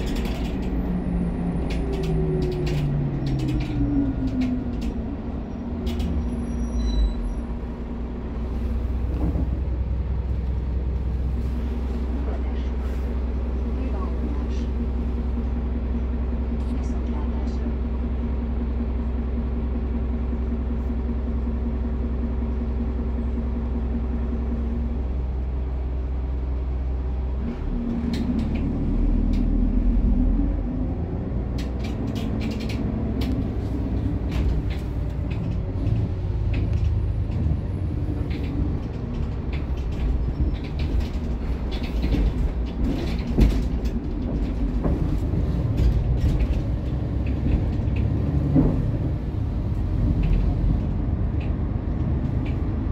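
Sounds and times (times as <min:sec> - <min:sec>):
bus body rattling and knocking: 0:00.0 - 0:52.9
bus engine idling and accelerating: 0:00.0 - 0:52.9.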